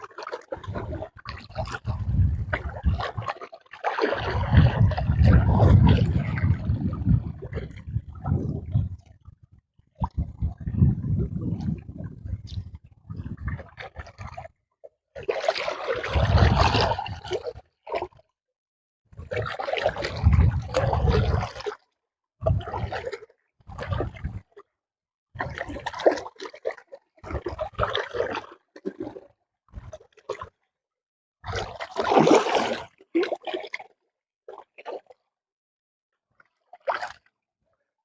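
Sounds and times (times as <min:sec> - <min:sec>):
water splashing and sloshing: 0:00.0 - 0:18.4, 0:19.1 - 0:24.8, 0:25.4 - 0:30.7, 0:31.4 - 0:35.3, 0:36.2 - 0:37.5.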